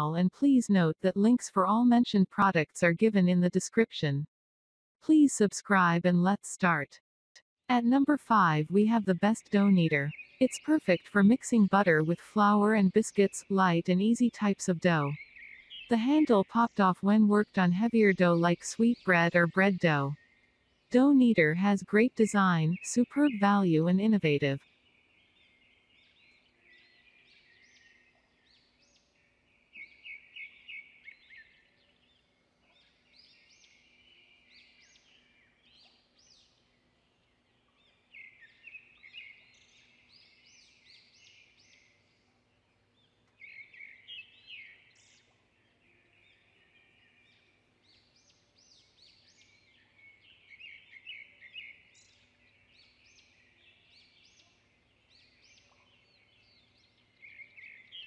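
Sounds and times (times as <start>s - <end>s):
faint bird chirping: 8.5s - 58.0s.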